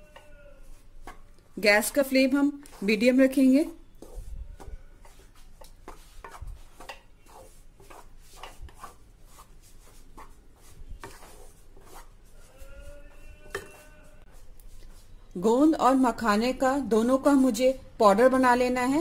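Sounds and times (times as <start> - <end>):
spatula scraping in a pan: 0.0 - 17.8.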